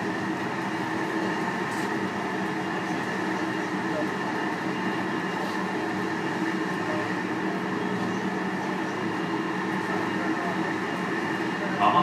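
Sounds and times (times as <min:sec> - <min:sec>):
electric train running noise: 0:00.0 - 0:12.0.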